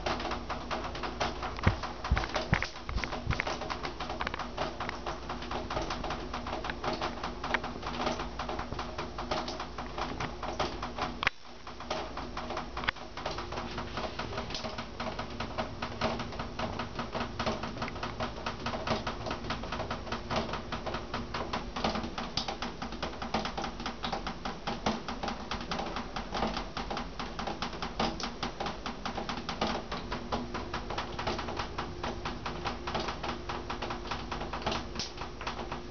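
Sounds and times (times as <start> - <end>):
fast irregular clicking: 0.0 - 35.9.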